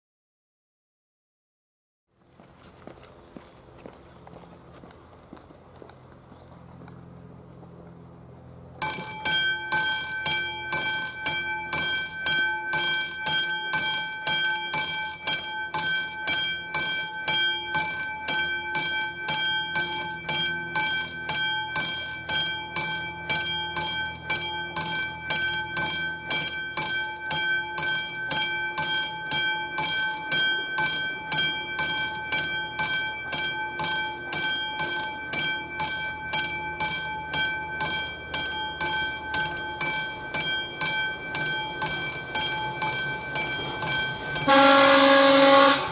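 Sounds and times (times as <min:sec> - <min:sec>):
level crossing warning bell: 0:08.5 - 0:45.9.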